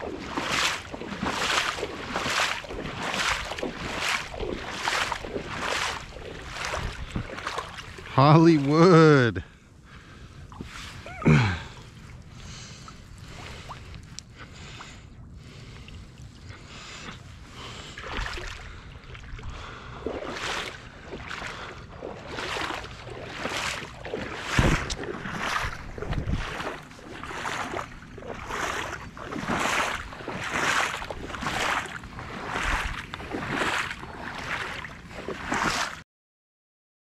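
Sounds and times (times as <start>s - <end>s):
water swishing and splashing: 0.0s - 36.0s.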